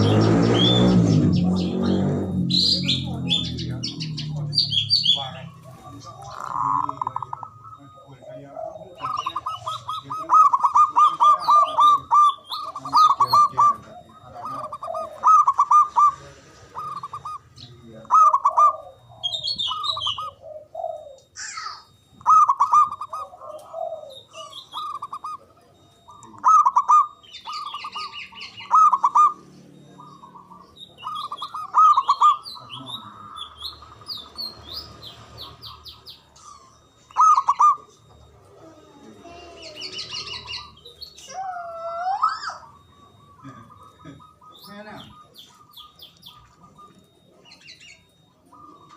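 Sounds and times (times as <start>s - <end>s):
dove cooing: 0.0s - 48.9s
small birds chirping: 0.0s - 48.9s.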